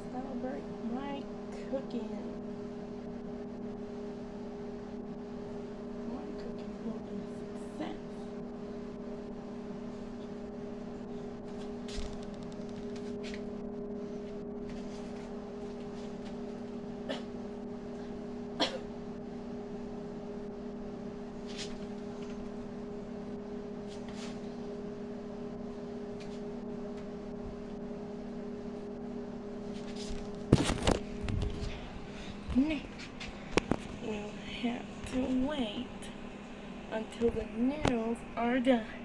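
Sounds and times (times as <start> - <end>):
microwave oven humming: 0.0 - 39.0.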